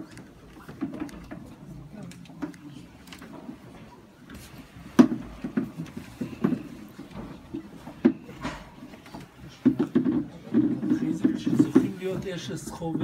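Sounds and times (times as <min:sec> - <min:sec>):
knocks and clicks of people moving: 0:00.0 - 0:13.0.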